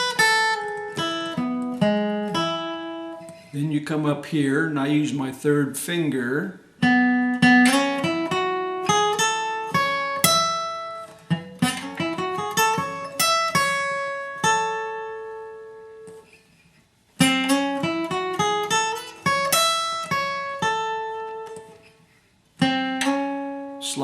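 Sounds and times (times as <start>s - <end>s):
acoustic guitar bluegrass riff: 0.0s - 24.0s.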